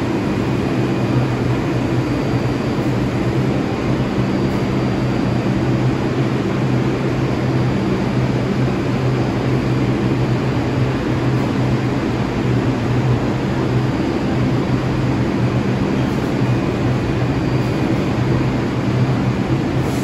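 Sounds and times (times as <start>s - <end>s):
subway train humming: 0.0s - 20.0s.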